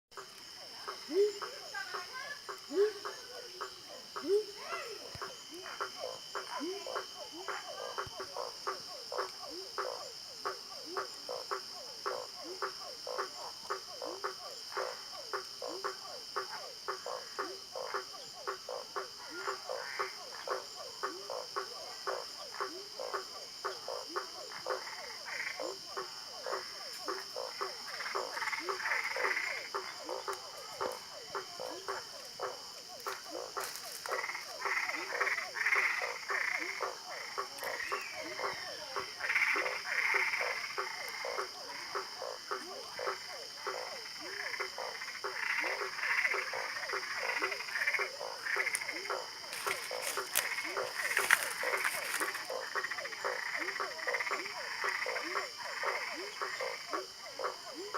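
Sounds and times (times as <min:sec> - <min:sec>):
frogs croaking: 0:00.1 - 0:57.9.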